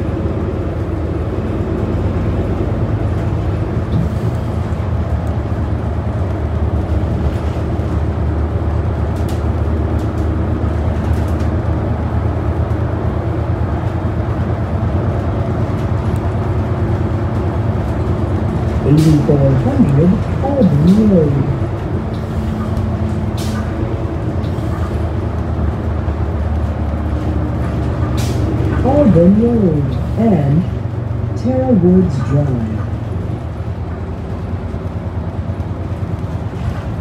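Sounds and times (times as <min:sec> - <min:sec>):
bus diesel engine drone: 0:00.0 - 0:37.0
road noise: 0:00.0 - 0:37.0.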